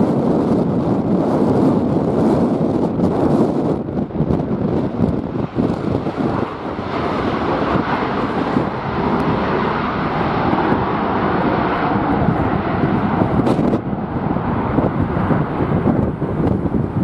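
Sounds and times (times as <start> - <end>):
jet airliner engine rushing: 0.0 - 17.0
wind buffeting microphone: 0.0 - 17.0.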